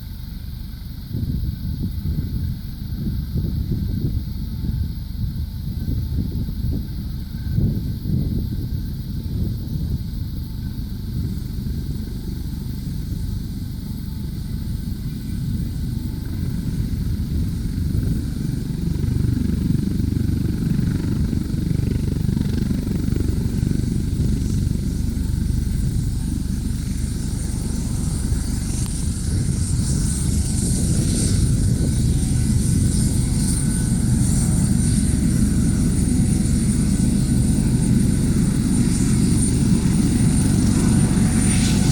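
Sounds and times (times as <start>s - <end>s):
helicopter rotor and engine rumble: 0.0s - 41.9s
high turbine whine: 0.0s - 41.9s.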